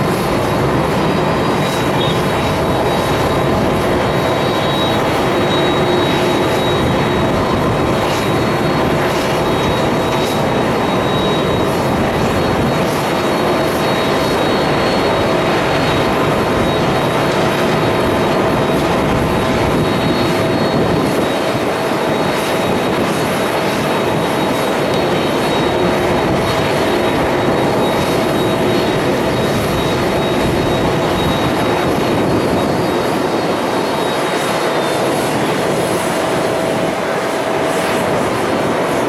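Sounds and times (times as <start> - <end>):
jet engines running: 0.0 - 39.0.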